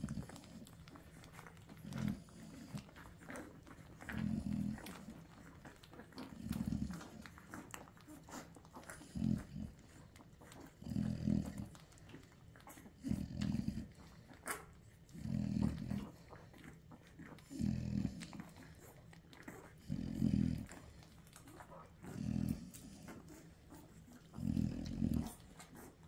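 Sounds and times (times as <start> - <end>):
dog low grunts: 0.0 - 26.0.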